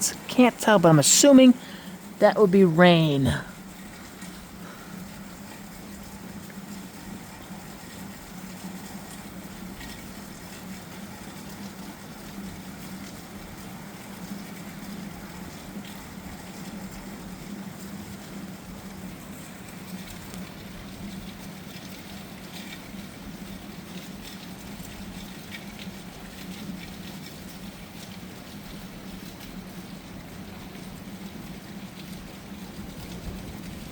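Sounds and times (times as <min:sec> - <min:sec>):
distant rain hiss: 0:00.0 - 0:33.9.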